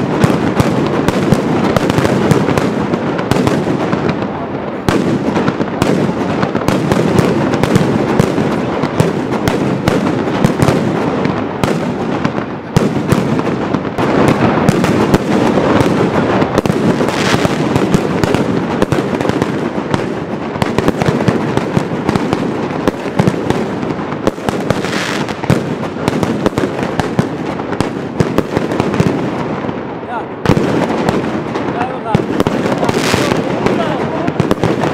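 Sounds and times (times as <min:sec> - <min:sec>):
firecrackers barrage: 0:00.0 - 0:34.9.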